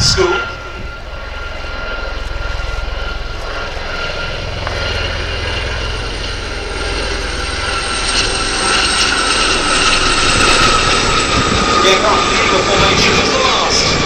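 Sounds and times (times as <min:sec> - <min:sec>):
helicopter rotor beat: 0:00.0 - 0:14.0
helicopter turbine whine: 0:00.0 - 0:14.0.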